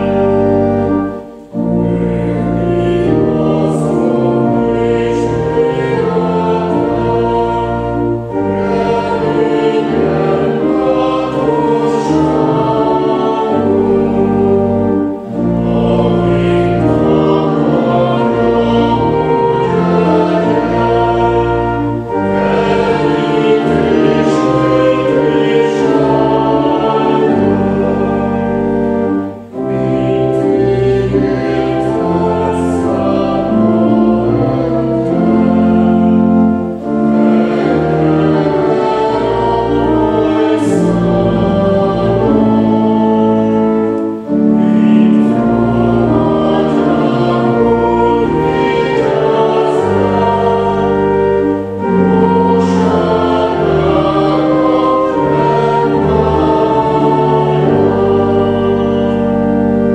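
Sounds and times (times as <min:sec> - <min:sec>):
congregation singing a hymn: 0:00.0 - 0:59.9
organ chords: 0:00.0 - 0:59.9.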